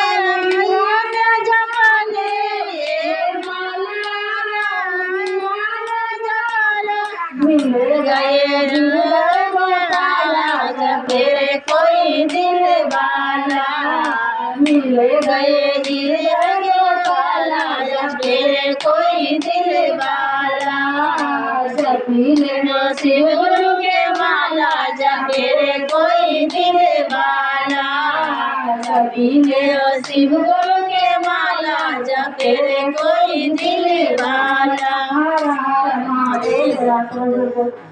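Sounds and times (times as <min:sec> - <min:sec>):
hand claps keeping time: 0:00.0 - 0:36.7
women singing devotional song: 0:00.0 - 0:37.9.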